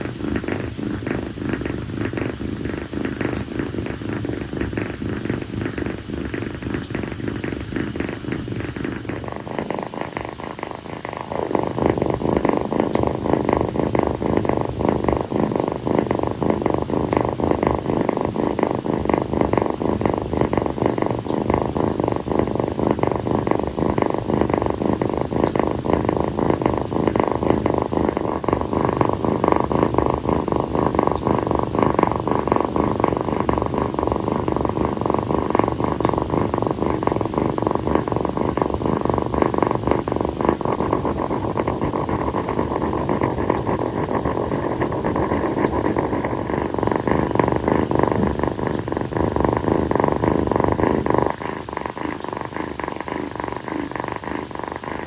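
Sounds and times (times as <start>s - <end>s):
kitten purring: 0.0s - 55.0s.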